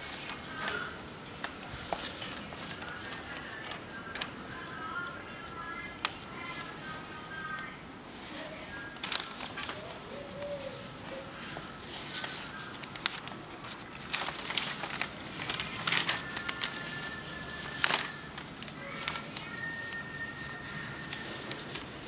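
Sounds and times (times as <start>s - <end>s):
newspaper pages rustling: 0.0s - 22.0s.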